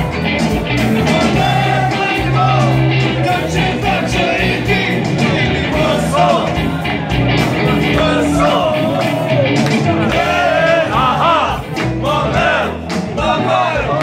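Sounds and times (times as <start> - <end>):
bass guitar: 0.0 - 14.0
drums: 0.0 - 14.0
electric guitars: 0.0 - 14.0
man singing lead: 1.0 - 6.9, 7.5 - 14.0.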